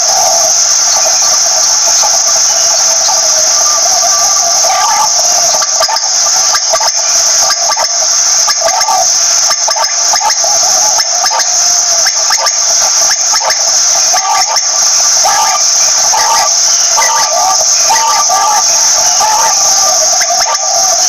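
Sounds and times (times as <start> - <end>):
high-pitched hiss: 0.0 - 21.0
quail calling: 0.0 - 21.0.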